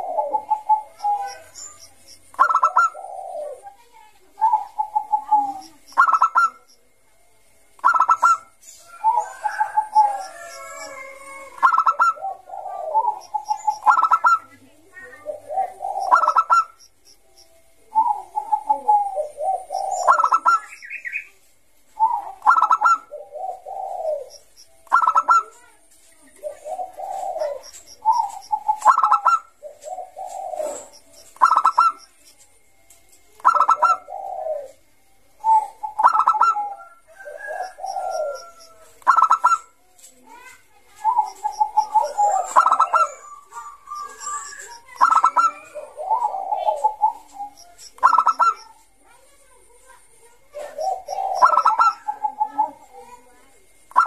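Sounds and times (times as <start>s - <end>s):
dove cooing: 0.0s - 6.7s, 7.8s - 16.9s, 17.8s - 21.1s, 21.9s - 32.6s, 33.4s - 48.9s, 50.4s - 54.0s.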